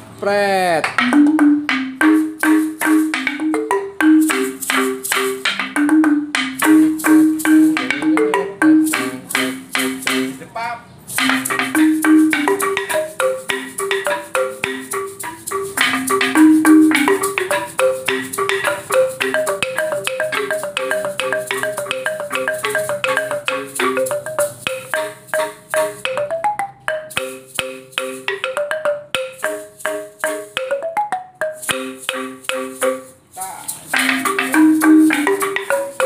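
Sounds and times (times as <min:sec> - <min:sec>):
metallophones playing fast pattern: 0:00.3 - 0:36.0.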